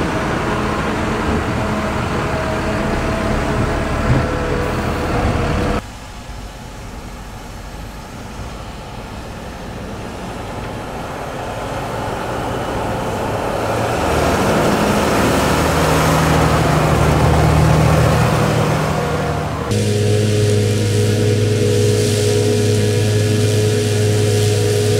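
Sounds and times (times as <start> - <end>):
tractor diesel engine: 0.0 - 24.9.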